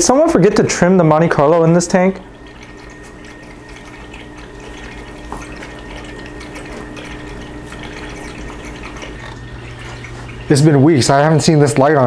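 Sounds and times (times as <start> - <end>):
faint steady hum: 0.0 - 12.0
water trickling and splashing: 0.2 - 12.0
water drips: 0.5 - 12.0.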